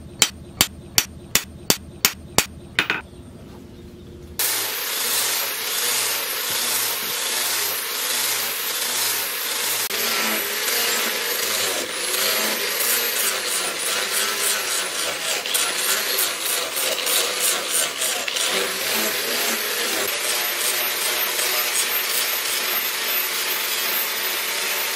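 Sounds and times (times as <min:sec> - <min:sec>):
angle grinder grinding wood: 0:04.4 - 0:24.9.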